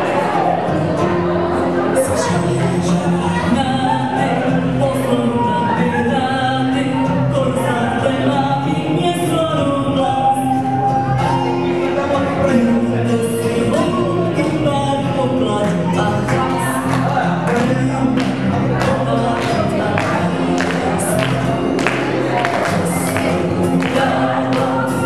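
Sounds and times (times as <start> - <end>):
music with singing over loudspeakers: 0.0 - 25.0.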